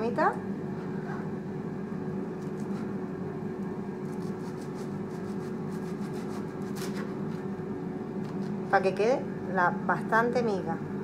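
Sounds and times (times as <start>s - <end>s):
steady hum with faint tone: 0.0s - 11.0s.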